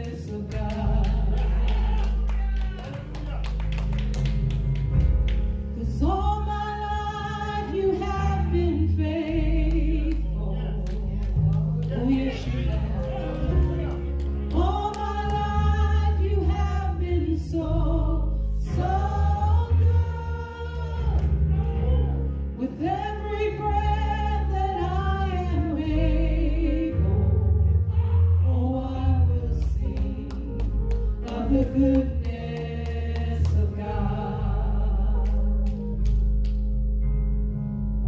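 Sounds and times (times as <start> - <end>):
group singing gospel music: 0.0 - 2.6, 6.2 - 36.0
accompaniment with steady bass: 0.0 - 38.0.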